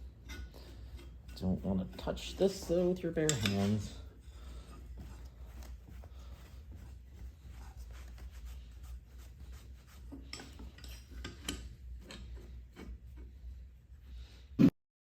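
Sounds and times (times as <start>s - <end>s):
rag rubbing on metal: 0.0s - 13.6s.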